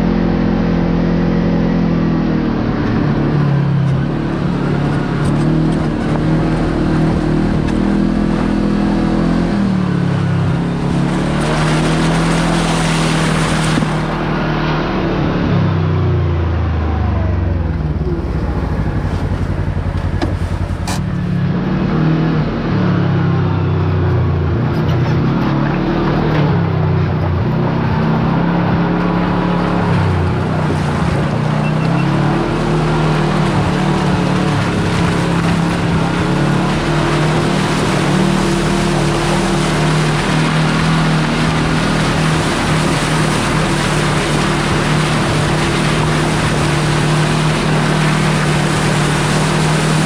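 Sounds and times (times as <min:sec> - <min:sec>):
vehicle engine running: 0:00.0 - 0:50.0
rush of noise: 0:03.0 - 0:50.0.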